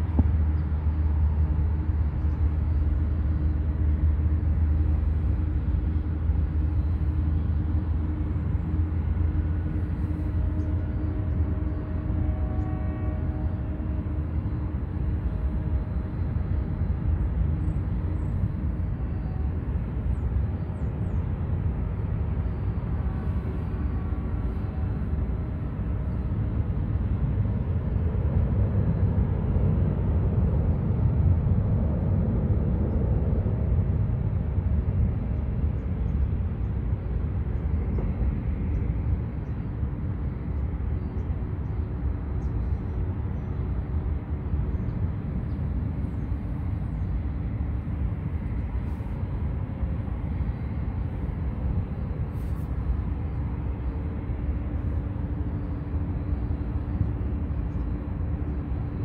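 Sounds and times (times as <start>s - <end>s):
distant aircraft engines running: 0.0s - 59.0s.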